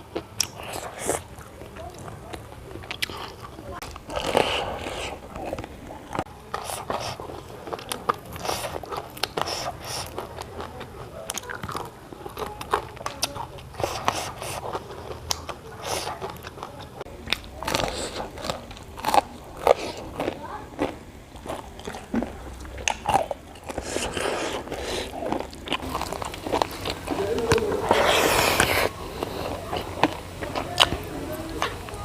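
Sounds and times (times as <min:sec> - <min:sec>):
person chewing food: 0:00.0 - 0:32.0.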